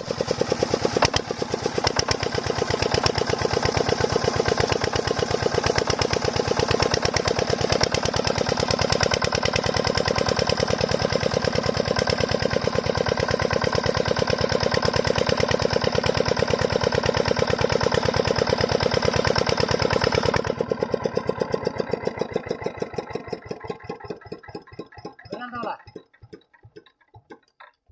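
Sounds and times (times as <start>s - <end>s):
diesel pump engine chugging: 0.0s - 27.7s.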